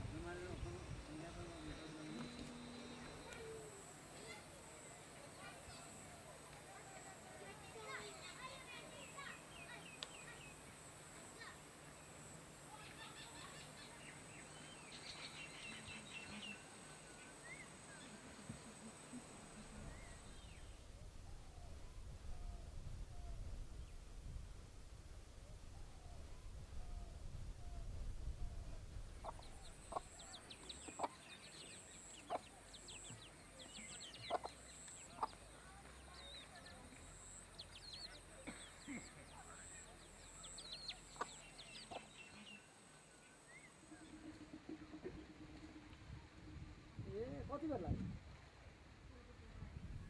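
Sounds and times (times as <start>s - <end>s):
faint birdsong: 0.0s - 24.4s, 25.2s - 48.5s.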